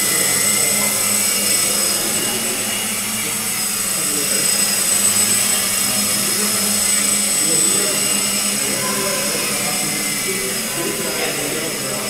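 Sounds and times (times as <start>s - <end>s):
propeller wash rushing: 0.0s - 12.0s
quadcopter motors whining: 0.0s - 12.0s.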